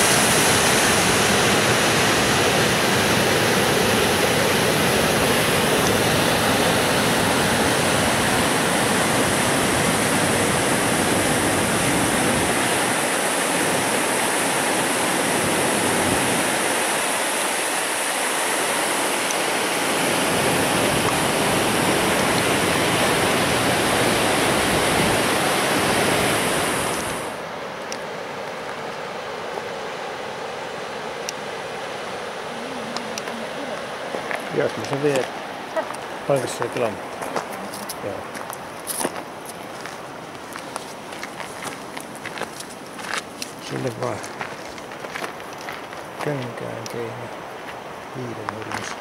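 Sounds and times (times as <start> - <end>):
whitewater rushing: 0.0 - 49.0.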